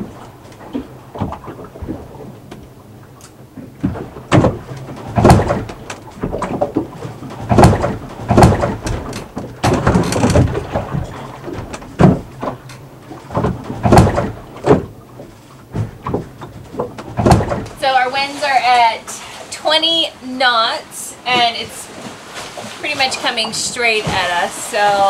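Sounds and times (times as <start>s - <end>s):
waves slapping against hulls: 0.0s - 25.0s.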